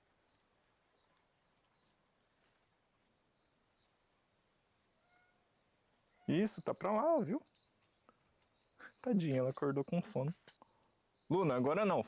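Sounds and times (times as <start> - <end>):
insects trilling: 0.2 - 12.0.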